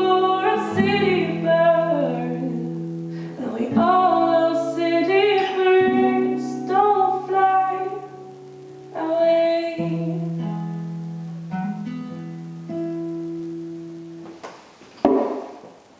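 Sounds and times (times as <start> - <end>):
guitar chords strummed: 0.0 - 14.4.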